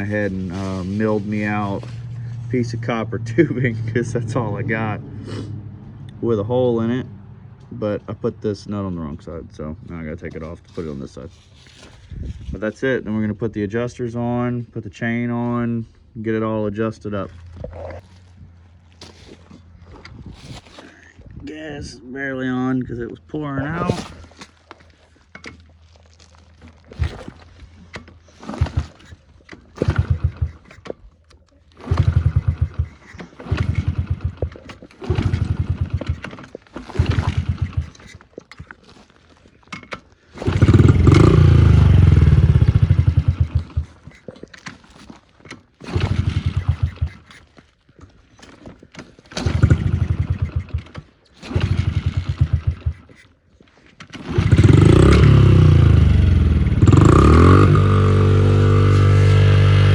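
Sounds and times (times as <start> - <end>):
motorcycle engine kick-starting: 0.0 - 21.1, 22.8 - 59.9.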